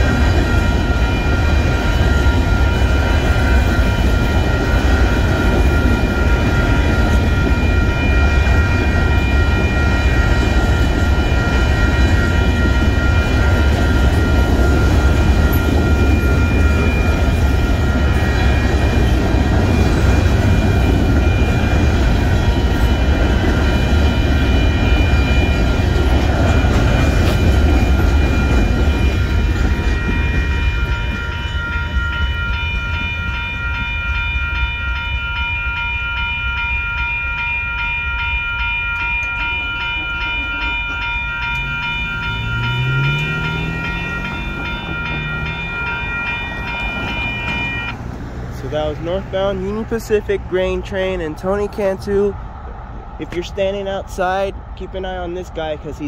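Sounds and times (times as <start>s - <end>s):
crossing signal bell ringing: 0.0s - 52.5s
train wheels rumbling on rail: 0.0s - 56.0s.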